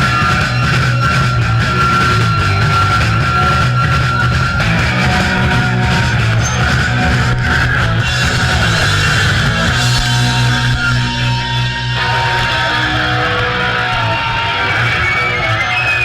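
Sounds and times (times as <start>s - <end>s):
distorted electric guitar: 0.0s - 16.0s
punk rock band: 0.0s - 16.0s.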